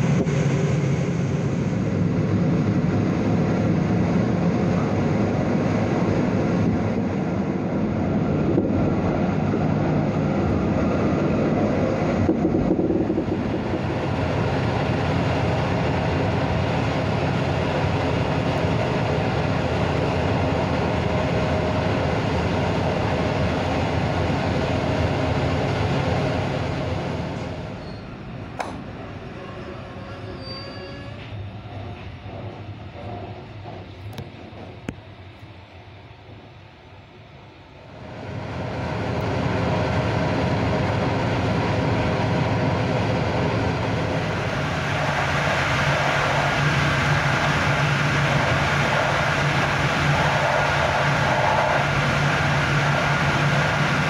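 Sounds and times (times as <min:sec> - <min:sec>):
train running on rails: 0:00.0 - 0:54.0.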